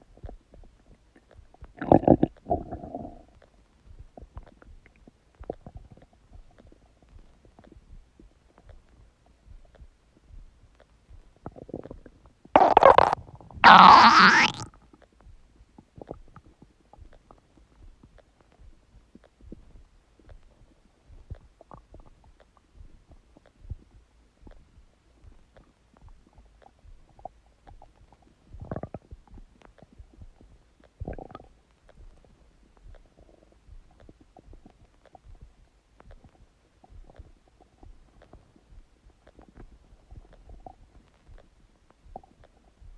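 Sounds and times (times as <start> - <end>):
stomach gurgling: 0.0 - 42.9.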